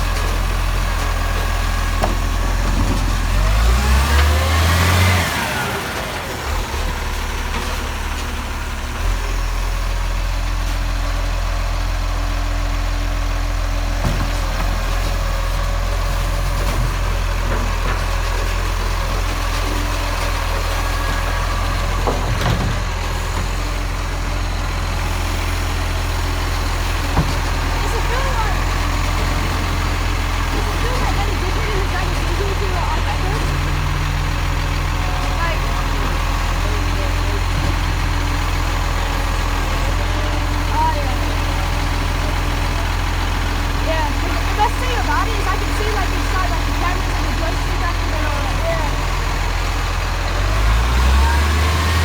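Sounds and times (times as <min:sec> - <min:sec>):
garbage truck engine idling: 0:00.0 - 0:52.0.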